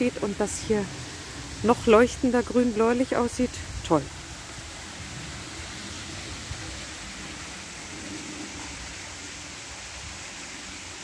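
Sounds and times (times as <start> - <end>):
waterfall into rock pool: 0.0 - 11.0.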